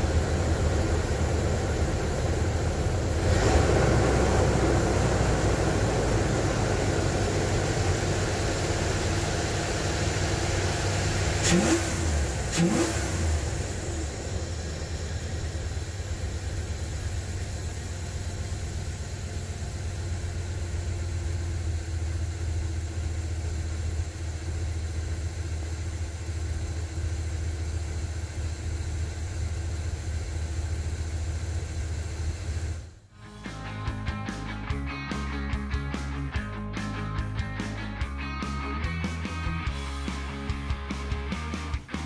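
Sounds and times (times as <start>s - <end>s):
pickup truck engine idling: 0.0s - 34.6s.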